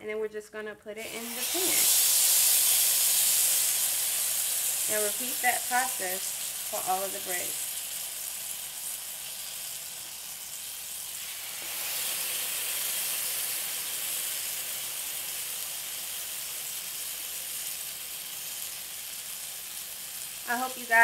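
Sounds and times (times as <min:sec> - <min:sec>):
bread sizzling in skillet: 0:01.0 - 0:21.0.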